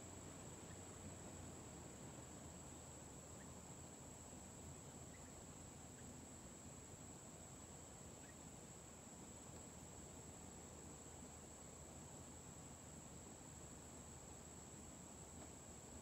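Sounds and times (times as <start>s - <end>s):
insect trill: 0.0s - 16.0s.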